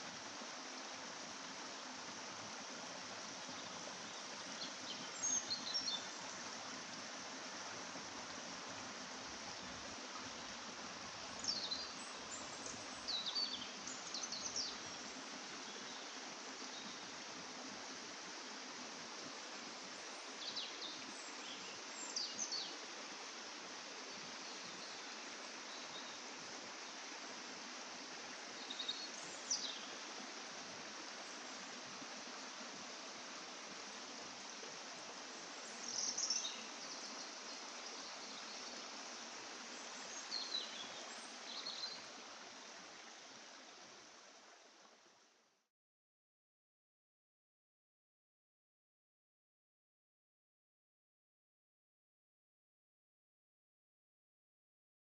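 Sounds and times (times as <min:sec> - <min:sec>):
running water rushing: 0:00.0 - 0:45.4.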